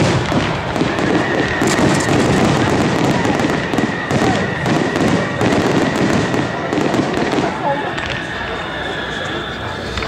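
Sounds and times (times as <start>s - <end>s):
fireworks crackling: 0.0s - 10.0s
steady high-pitched tone: 0.8s - 10.0s.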